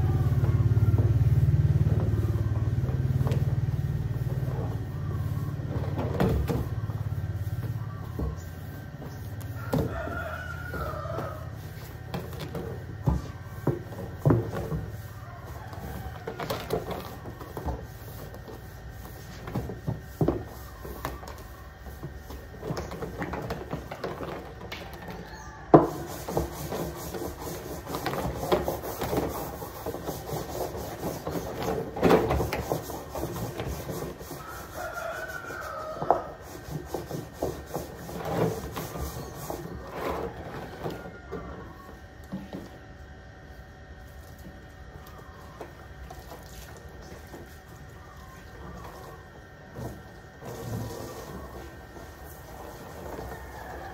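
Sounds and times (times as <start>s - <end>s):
hand scrubbing plastic drum: 0.0s - 53.9s.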